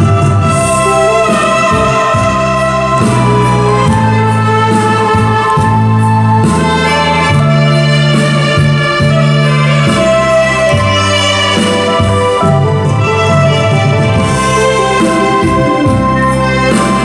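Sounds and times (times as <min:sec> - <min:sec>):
low bass notes: 0:00.0 - 0:17.0
saxophones playing slow melody: 0:00.0 - 0:17.0.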